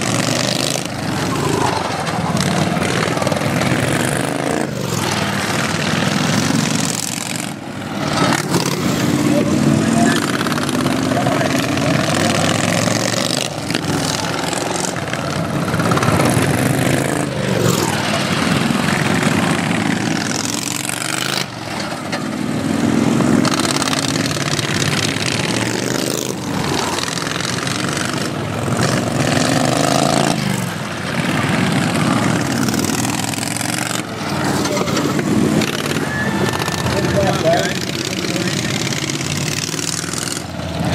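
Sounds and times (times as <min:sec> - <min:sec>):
lawn tractor engines revving: 0:00.0 - 0:40.9.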